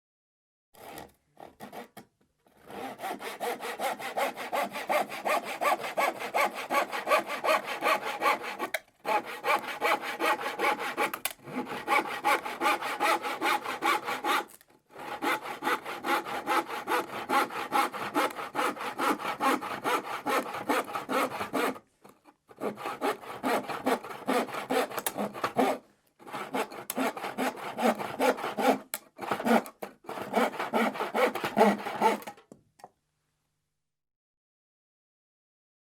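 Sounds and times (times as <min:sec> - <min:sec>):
handsaw cutting plywood: 0:00.8 - 0:21.9, 0:22.5 - 0:32.4.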